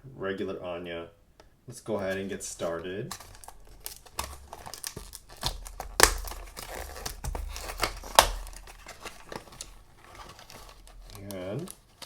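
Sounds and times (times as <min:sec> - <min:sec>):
crinkling and rustling: 0:01.7 - 0:12.0
sharp cardboard cracks: 0:01.9 - 0:12.0
cardboard box tearing: 0:02.0 - 0:12.0.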